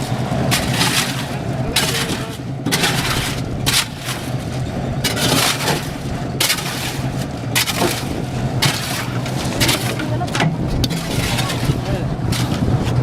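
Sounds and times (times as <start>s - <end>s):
construction machinery engine: 0.0s - 13.0s
stone crunching and scraping: 0.0s - 13.0s.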